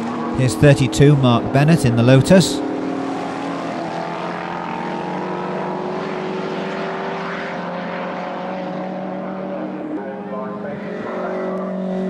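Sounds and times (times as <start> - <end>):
racing car engine running hard: 0.0 - 12.0.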